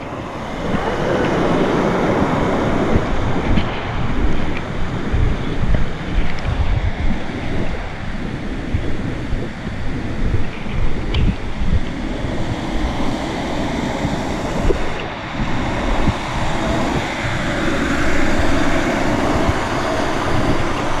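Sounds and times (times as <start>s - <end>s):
water rushing over rocks: 0.0s - 21.0s
wind and handling rumble: 0.0s - 21.0s.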